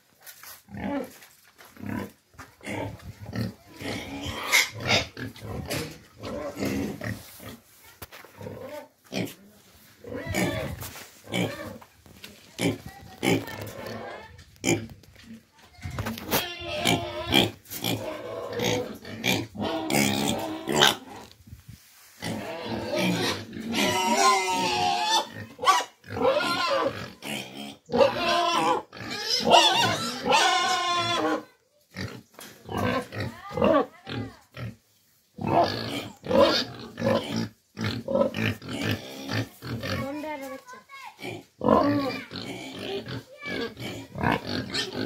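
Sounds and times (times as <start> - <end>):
pigs grunting and squealing: 0.7 - 1.2, 1.8 - 7.6, 8.4 - 9.4, 10.0 - 11.9, 12.6 - 15.4, 16.0 - 21.4, 22.2 - 34.8, 35.4 - 40.3, 41.2 - 45.0.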